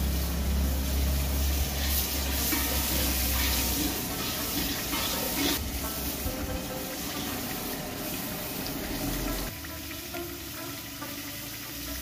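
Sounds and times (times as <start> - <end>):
ladle stirring liquid: 1.6 - 11.4.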